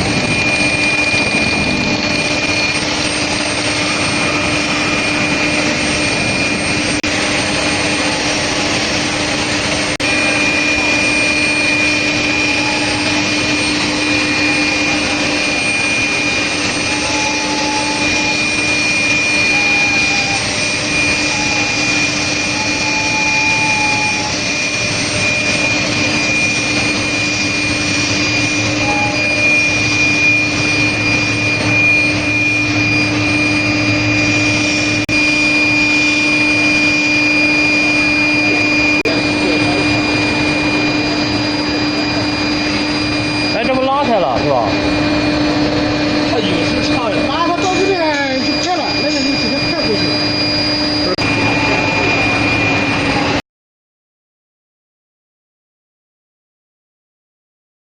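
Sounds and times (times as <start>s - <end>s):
high-pitched whine: 0.0s - 53.4s
machine hum: 0.0s - 53.4s
machine rushing noise: 0.0s - 53.4s.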